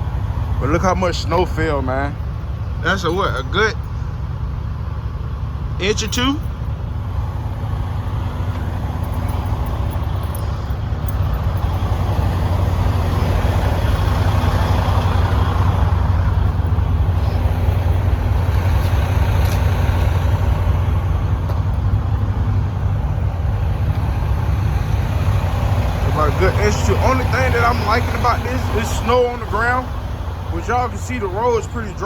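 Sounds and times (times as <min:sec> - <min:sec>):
truck diesel engine idling: 0:00.0 - 0:32.0.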